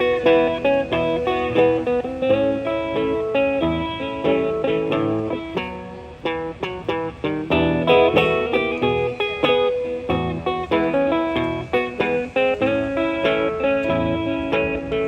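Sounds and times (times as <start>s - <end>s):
guitar picked notes: 0.0s - 15.0s.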